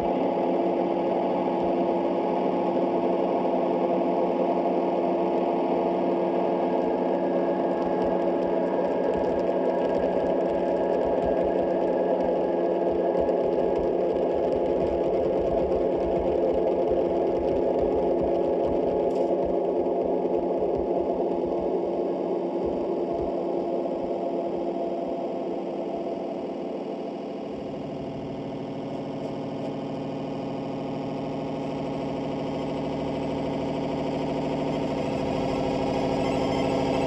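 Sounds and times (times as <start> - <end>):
droning noise music: 0.0 - 37.0.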